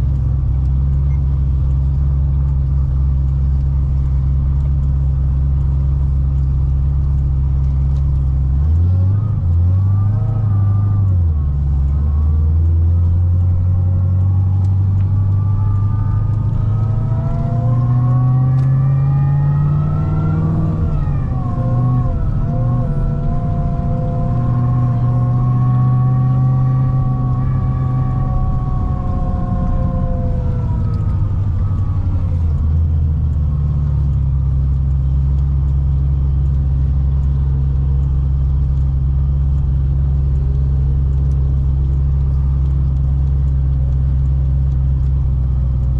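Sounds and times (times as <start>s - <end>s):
car engine drone: 0.0s - 45.9s
high supercharger whine: 0.0s - 45.9s.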